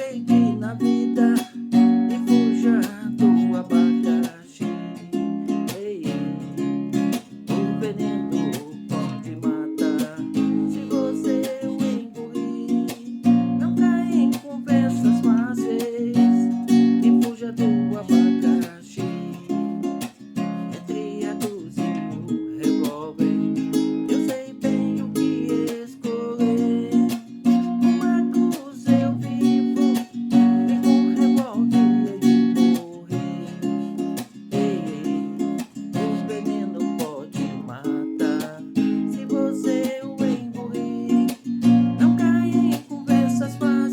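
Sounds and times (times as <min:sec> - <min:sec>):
acoustic guitar plucked and strummed: 0:00.0 - 0:43.9.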